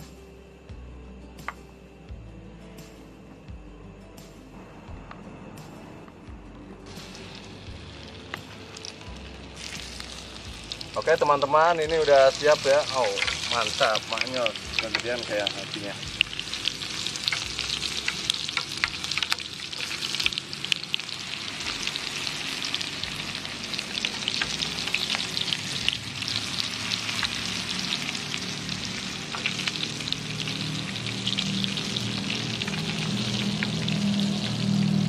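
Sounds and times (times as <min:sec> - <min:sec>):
deep-frying sizzle with pops: 0:06.9 - 0:35.0.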